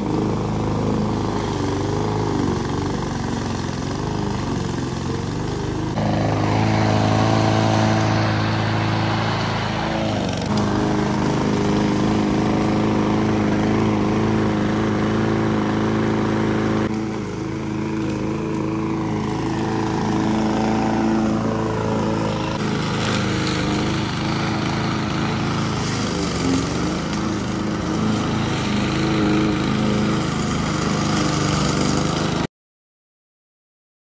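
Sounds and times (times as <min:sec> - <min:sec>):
lawn mower engine running: 0:00.0 - 0:32.5.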